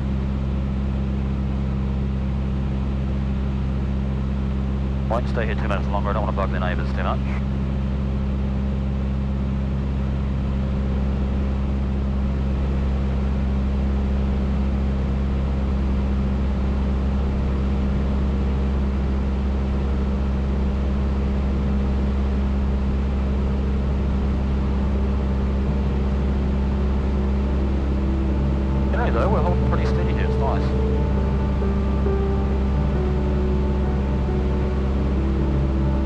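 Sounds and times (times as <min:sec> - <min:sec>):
aircraft engine and propeller drone: 0:00.0 - 0:36.0.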